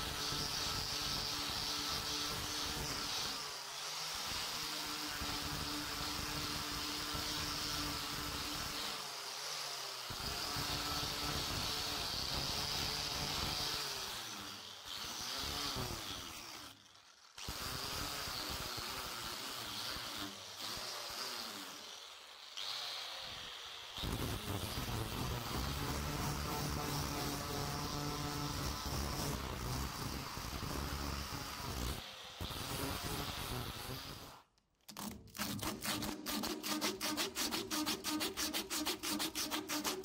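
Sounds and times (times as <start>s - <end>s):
angle grinder sanding wood: 0.0s - 34.4s, 35.0s - 40.0s.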